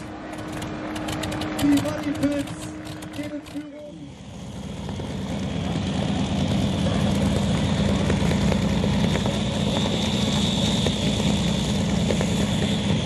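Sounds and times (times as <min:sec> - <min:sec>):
tractor engine running hard: 0:00.0 - 0:13.0.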